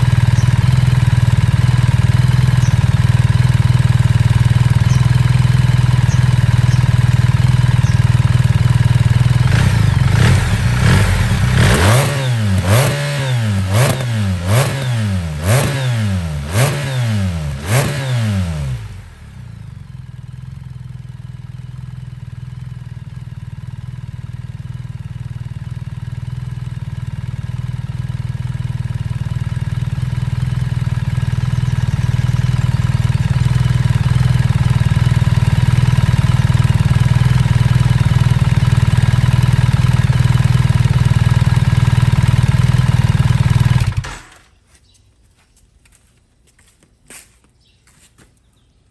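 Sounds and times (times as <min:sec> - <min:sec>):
motorcycle throttle blips: 0:00.0 - 0:25.2, 0:26.0 - 0:45.1
motorcycle engine idling: 0:00.0 - 0:44.9.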